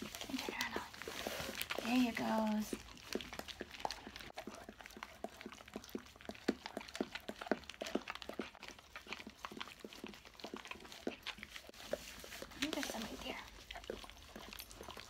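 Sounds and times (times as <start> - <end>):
dogs licking plastic bags: 0.0 - 15.0.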